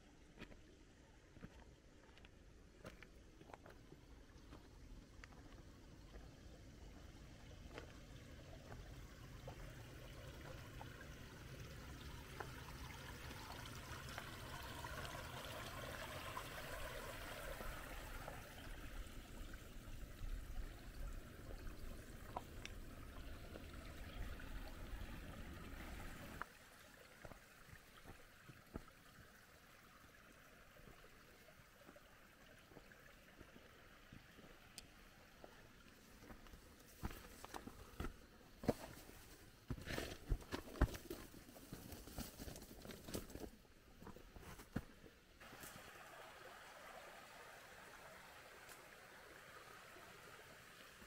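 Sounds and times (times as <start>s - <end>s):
creek trickling: 1.4s - 51.0s.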